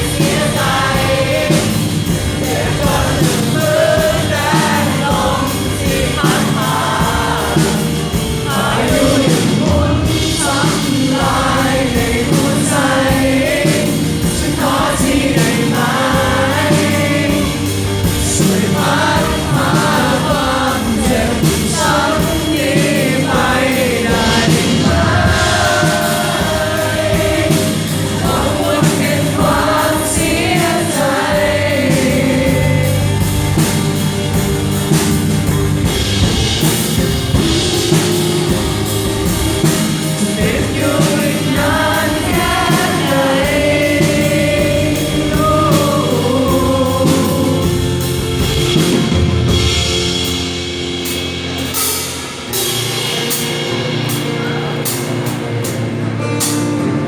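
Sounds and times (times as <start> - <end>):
person singing: 0.0 - 33.8, 36.6 - 50.0
live rock band playing: 0.0 - 57.0.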